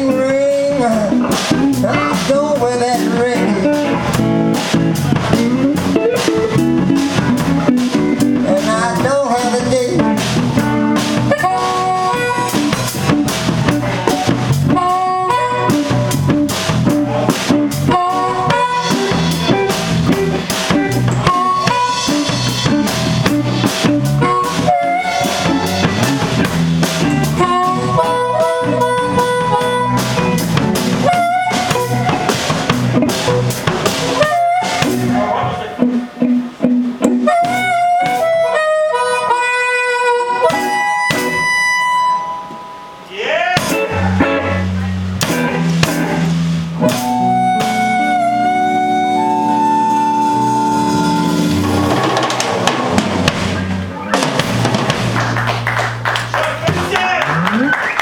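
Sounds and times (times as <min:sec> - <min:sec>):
harmonica through amplifier: 0:00.0 - 0:54.6
drum kit groove: 0:00.0 - 0:58.0
electric bass: 0:00.0 - 0:58.0
electric guitar: 0:00.0 - 0:58.0.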